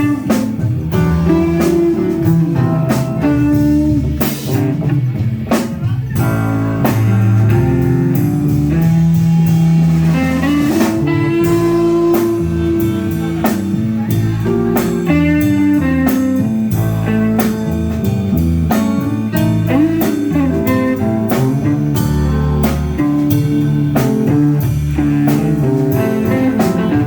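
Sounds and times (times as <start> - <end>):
blues band playing: 0.0 - 27.0
organ chords: 0.0 - 27.0.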